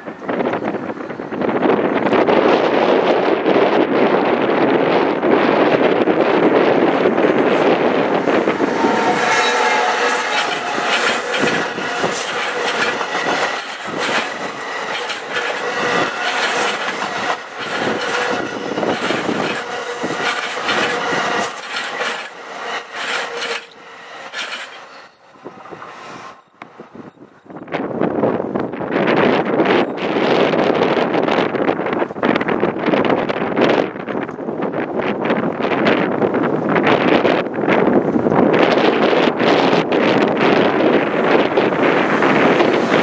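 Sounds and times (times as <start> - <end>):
faint steady squeal: 0.0 - 37.0
train wheels clicking: 0.1 - 37.5.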